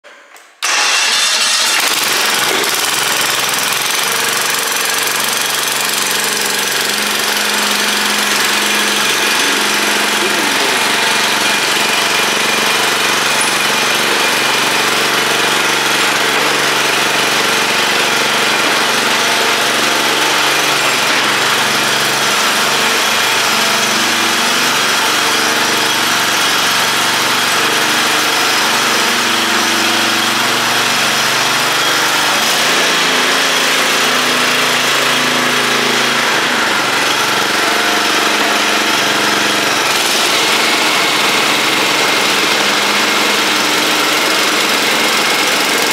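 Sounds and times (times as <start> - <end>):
lawn mower engine running: 0.6 - 45.9.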